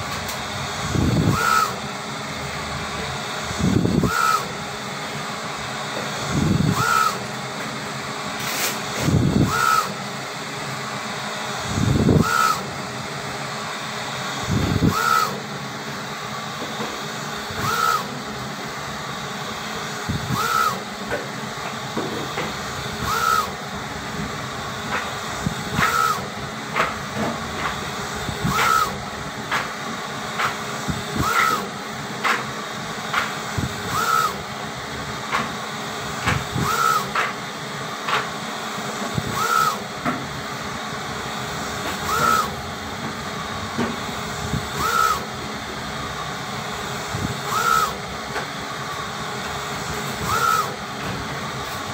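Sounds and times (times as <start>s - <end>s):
print carriage chirp and click: 0.0s - 2.6s, 3.8s - 4.7s, 5.9s - 7.8s, 8.4s - 10.1s, 11.9s - 12.9s, 14.5s - 15.5s, 16.6s - 18.4s, 19.6s - 38.3s, 38.9s - 40.4s, 41.4s - 51.9s
printer hissing: 0.0s - 51.9s.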